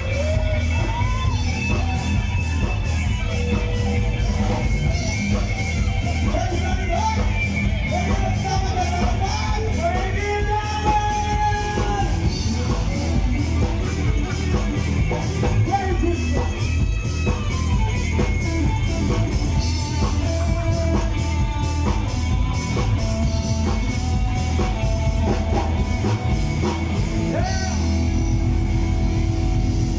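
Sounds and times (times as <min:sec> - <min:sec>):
rock band playing: 0:00.0 - 0:29.9.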